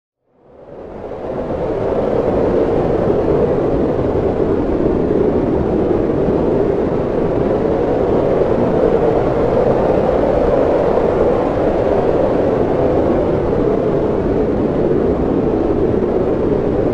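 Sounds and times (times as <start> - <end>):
hurricane wind roaring: 0.4 - 16.9.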